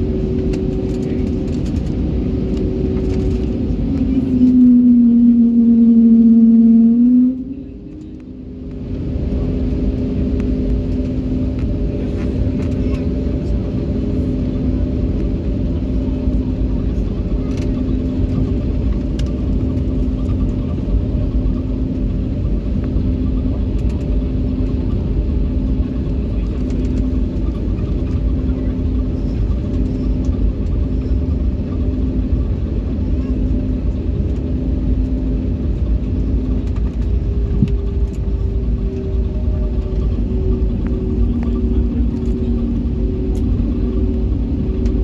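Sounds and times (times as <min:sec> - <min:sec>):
jet engines rumbling: 0:00.0 - 0:45.0
pulsing hum: 0:00.0 - 0:45.0.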